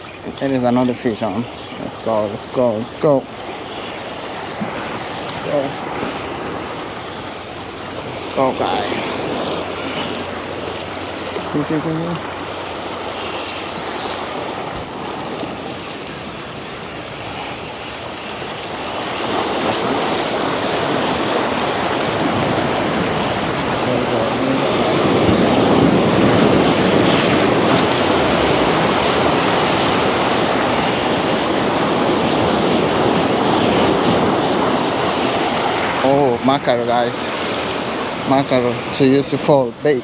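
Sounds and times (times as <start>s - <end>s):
ocean surf washing over rocks: 0.0s - 40.0s.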